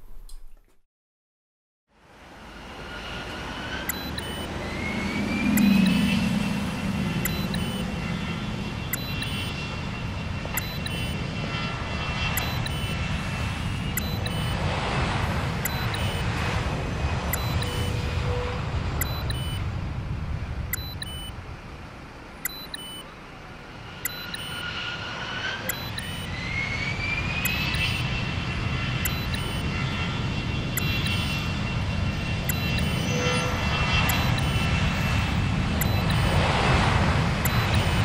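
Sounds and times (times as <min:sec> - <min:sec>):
jet engine whine: 0:01.9 - 0:38.0
jet engine rumbling: 0:02.0 - 0:38.0.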